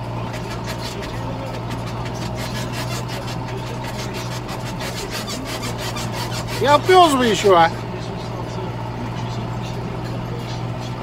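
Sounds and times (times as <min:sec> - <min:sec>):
fast uneven rattling: 0:00.0 - 0:11.0
tractor engine hum: 0:00.0 - 0:11.0.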